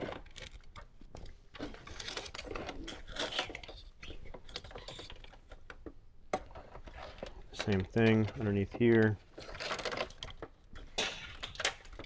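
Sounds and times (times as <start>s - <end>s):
rustling of wiring and trim: 0.0s - 12.0s.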